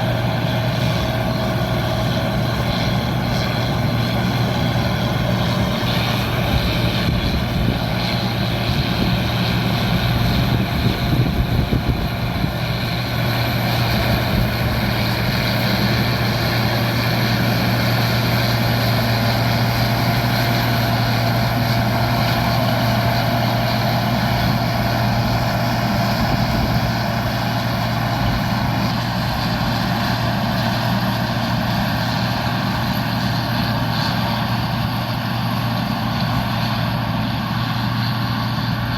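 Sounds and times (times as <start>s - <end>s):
combine harvester engine drone: 0.0s - 38.9s
threshing machinery whine: 0.0s - 38.9s.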